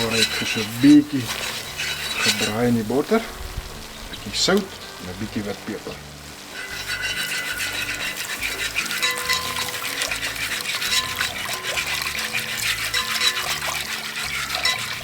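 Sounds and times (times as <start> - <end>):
roux sizzling in a pot: 0.0 - 15.0.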